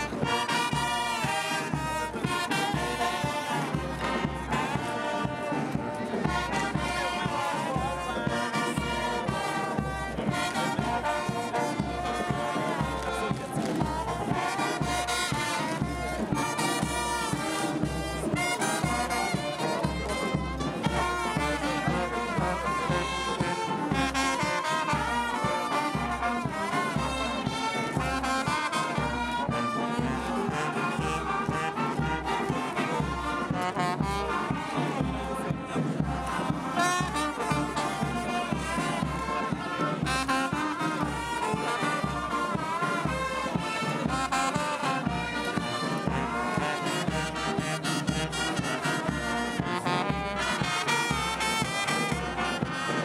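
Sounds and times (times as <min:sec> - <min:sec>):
brass horn music: 0:00.0 - 0:53.0.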